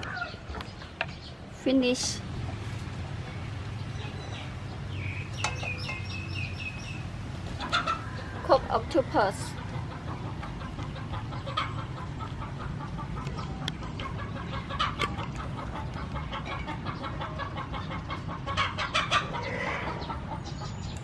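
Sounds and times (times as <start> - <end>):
chickens clucking: 1.9 - 21.0.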